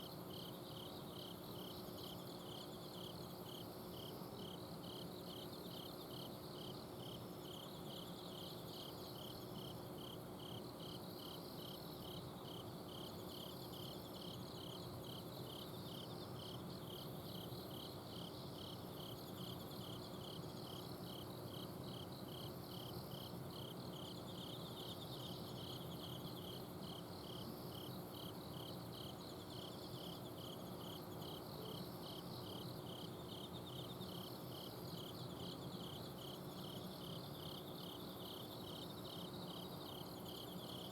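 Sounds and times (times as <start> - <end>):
cricket chirping steadily: 0.0 - 40.9
crickets trilling: 0.0 - 40.9.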